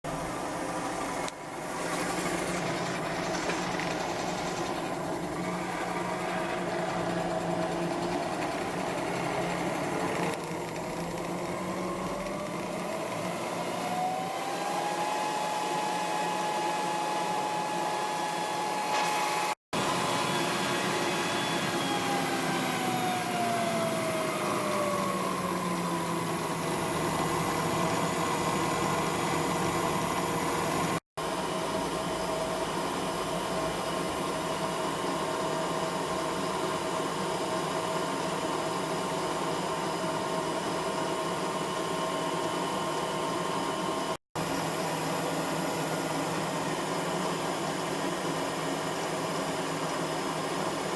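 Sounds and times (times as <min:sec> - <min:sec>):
milling machine motor whine: 0:00.1 - 0:50.9.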